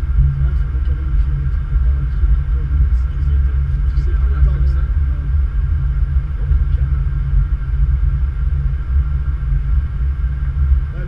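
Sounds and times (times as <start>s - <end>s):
aircraft cockpit rumble: 0.0s - 11.0s.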